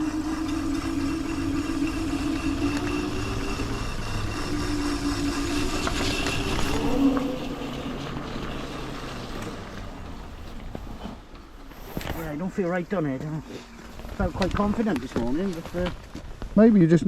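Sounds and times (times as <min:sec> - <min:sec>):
brake disc rubbing on pads: 0:00.0 - 0:16.4
electric scooter motor whine: 0:00.0 - 0:16.5.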